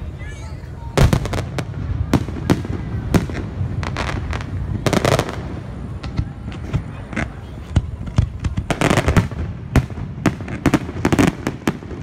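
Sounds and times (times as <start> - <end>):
fireworks bursting: 0.0 - 12.0
fireworks crackling: 0.0 - 12.0.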